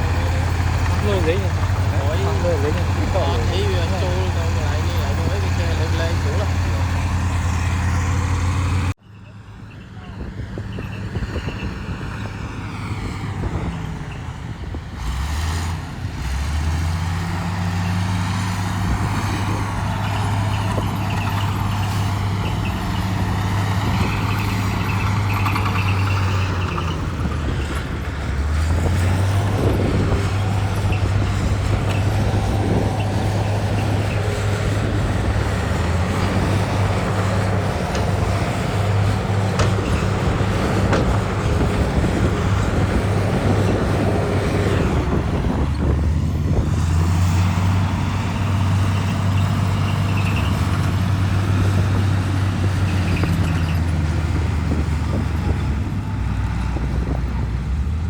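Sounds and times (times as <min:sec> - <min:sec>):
heavy diesel engine revving: 0:00.0 - 0:09.0, 0:12.5 - 0:58.0.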